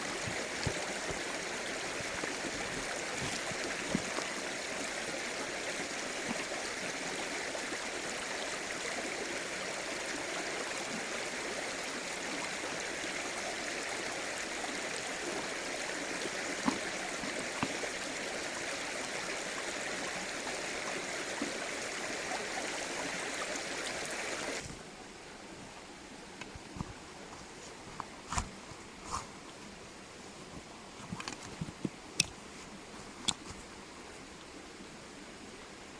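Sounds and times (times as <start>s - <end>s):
stream running over rocks: 0.0s - 35.9s.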